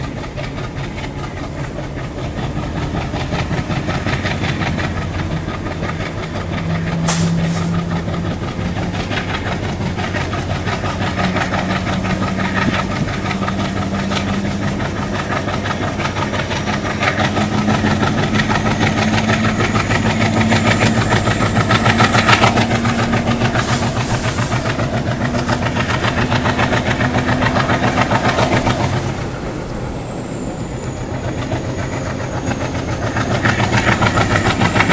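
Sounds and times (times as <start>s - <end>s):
diesel locomotives chugging: 0.0s - 34.9s.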